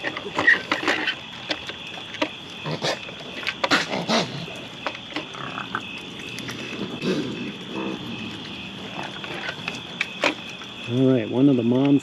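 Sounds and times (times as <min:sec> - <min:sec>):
raccoons growling and squealing: 0:00.0 - 0:10.8.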